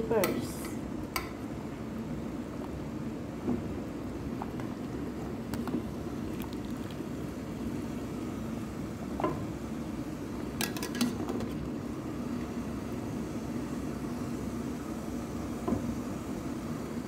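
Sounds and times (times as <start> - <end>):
water boiling in pot: 0.0 - 17.0.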